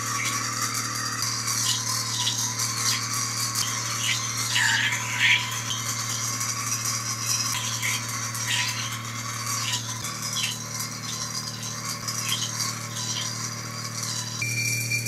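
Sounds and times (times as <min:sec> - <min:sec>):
rattling hiss of spinning water: 0:00.0 - 0:14.4
small electric motor humming: 0:00.0 - 0:15.0.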